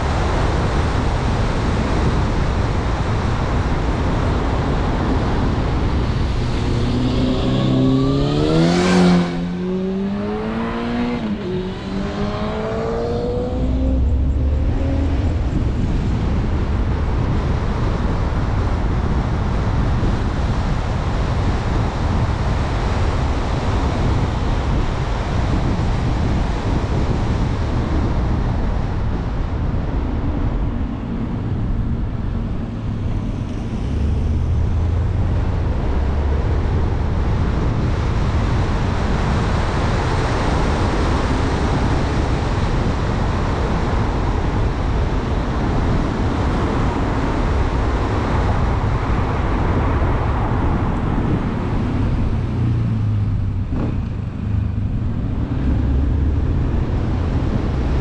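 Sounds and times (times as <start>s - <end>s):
car road noise: 0.0s - 58.0s
rushing wind: 0.0s - 58.0s.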